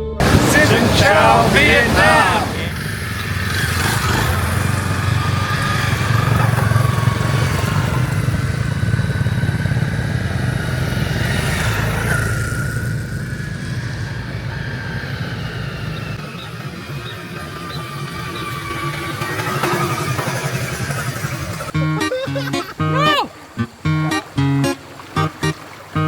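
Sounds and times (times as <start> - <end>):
motorcycle engine running: 0.0 - 22.2.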